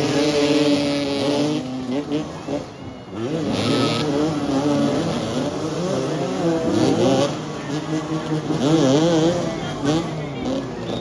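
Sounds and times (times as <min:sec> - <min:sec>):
motorcycles revving and accelerating: 0:00.0 - 0:11.0.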